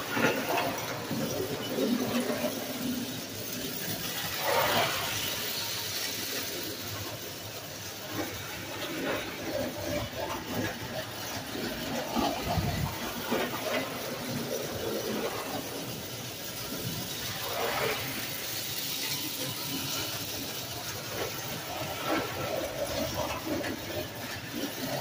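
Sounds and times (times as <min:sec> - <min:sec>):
toy trains running on track: 0:00.0 - 0:25.0.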